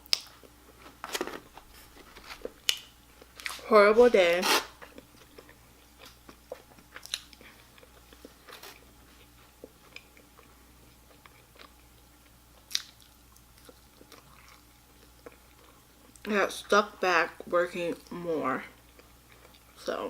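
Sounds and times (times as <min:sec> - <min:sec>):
person chewing crunchy food: 0:00.0 - 0:03.7, 0:04.5 - 0:16.3, 0:18.8 - 0:19.8.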